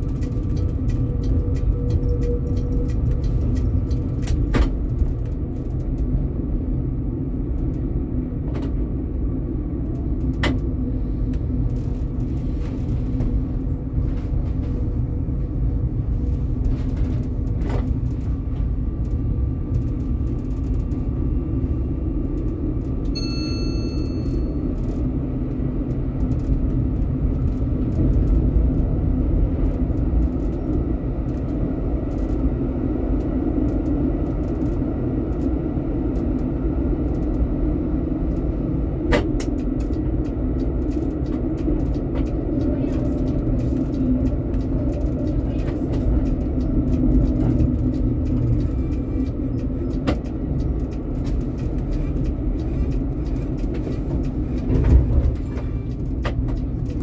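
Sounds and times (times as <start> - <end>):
tram rumbling on rails: 0.0 - 57.0.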